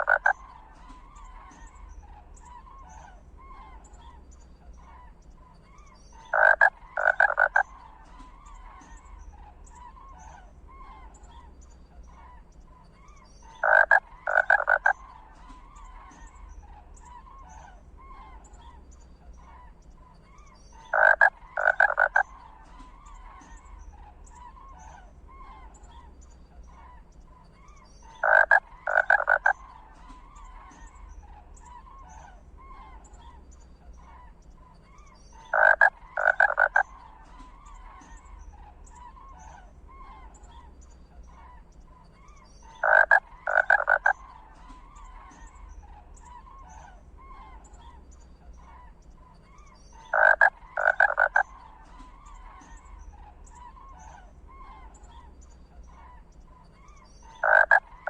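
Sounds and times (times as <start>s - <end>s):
faint chirping: 0.0s - 58.0s.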